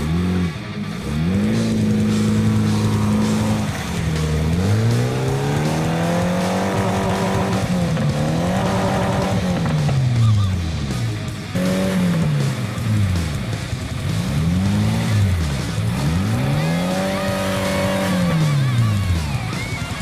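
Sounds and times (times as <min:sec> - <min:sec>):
engine revving hard: 0:00.0 - 0:20.0.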